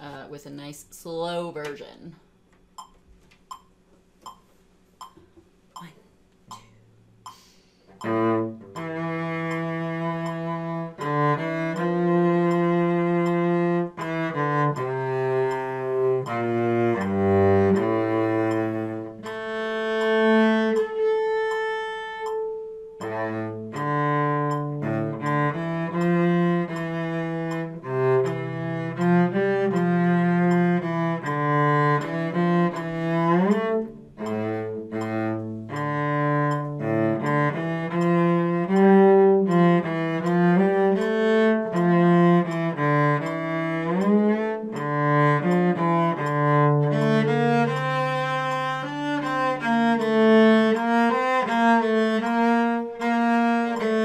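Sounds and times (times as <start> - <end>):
solo cello bowed: 7.9 - 54.0.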